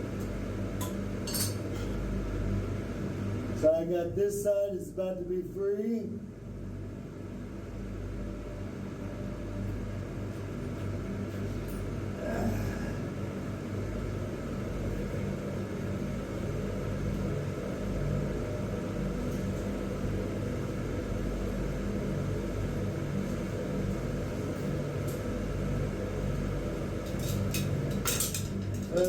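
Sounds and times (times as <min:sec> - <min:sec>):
low mechanical rumble with hum: 0:00.0 - 0:29.0.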